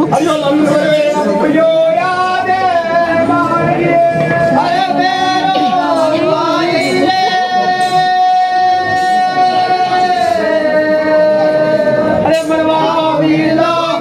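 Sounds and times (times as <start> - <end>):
lower voice singing melody: 0.0 - 14.0.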